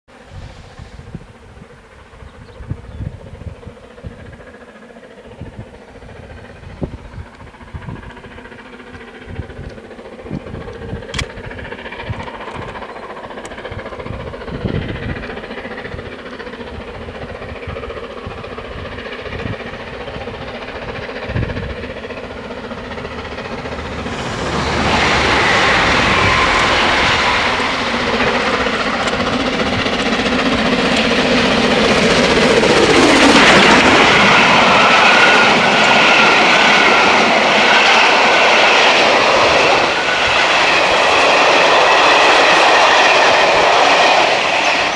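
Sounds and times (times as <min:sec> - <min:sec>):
steam train rushing past: 0:00.1 - 0:44.9.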